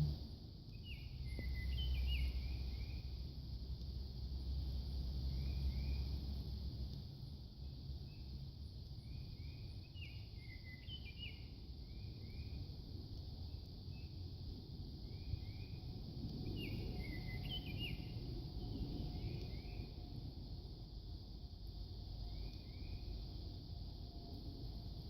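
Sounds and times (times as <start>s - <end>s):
high hiss: 0.0s - 25.0s
low rumble: 0.0s - 25.0s.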